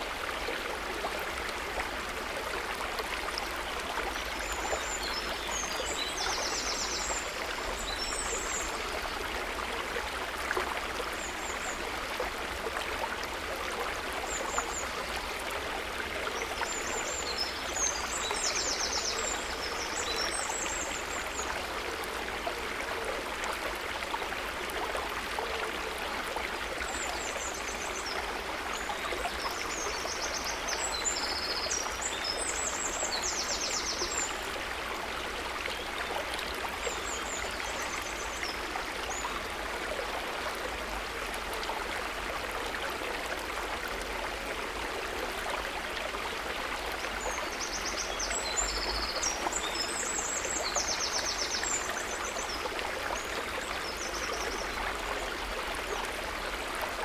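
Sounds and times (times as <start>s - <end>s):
river water running: 0.0s - 57.0s.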